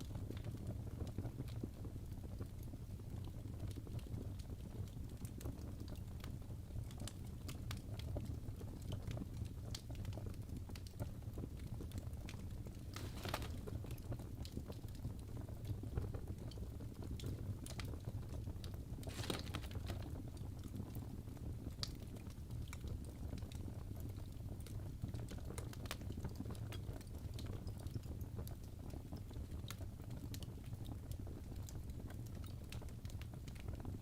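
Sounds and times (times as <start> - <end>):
fire flames rumbling: 0.0 - 34.0
logs crackling and popping: 0.0 - 34.0.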